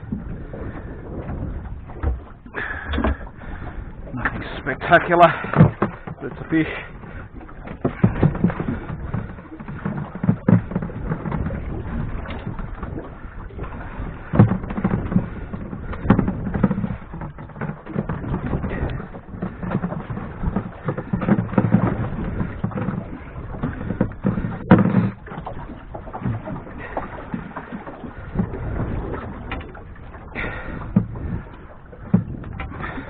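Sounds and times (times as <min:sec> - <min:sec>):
boat handling knocks and clicks: 0:00.0 - 0:33.0.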